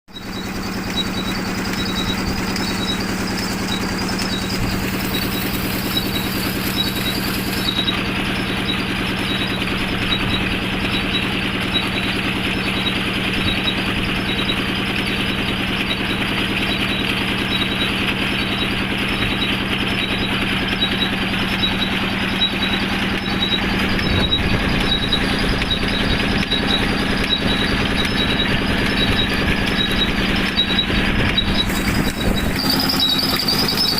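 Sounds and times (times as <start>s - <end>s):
diesel engine driving water pump: 0.1s - 33.9s.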